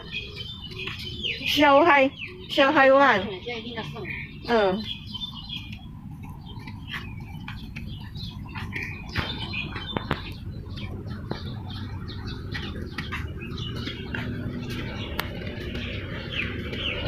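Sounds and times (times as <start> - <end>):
low background rumble: 0.0 - 17.0
small birds chirping: 0.0 - 17.0.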